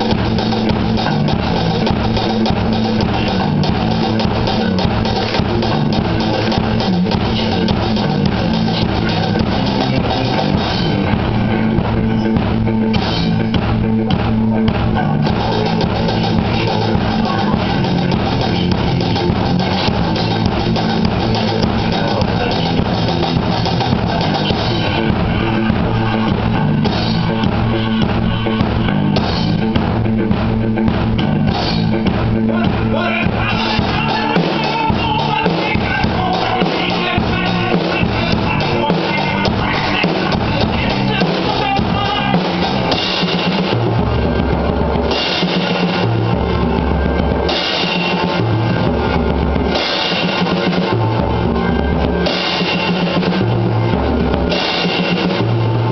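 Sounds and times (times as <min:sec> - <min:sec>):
acoustic drum kit: 0:00.0 - 0:55.9
rock recording with bass and guitar: 0:00.0 - 0:55.9.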